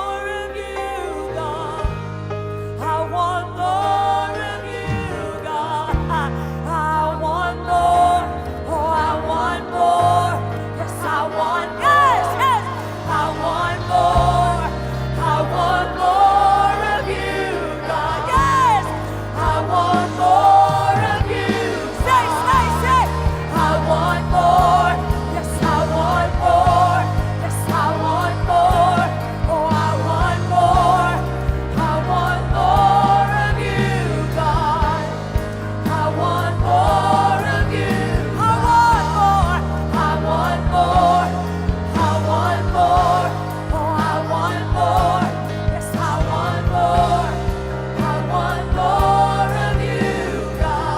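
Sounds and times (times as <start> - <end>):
bass: 0.0 - 50.9
sustained keyboard chords: 0.0 - 50.9
voices singing gospel melody: 0.0 - 50.9.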